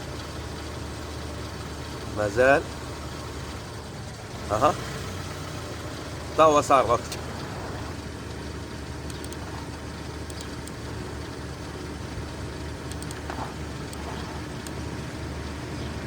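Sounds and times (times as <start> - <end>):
car engine idling roughly: 0.0 - 16.0.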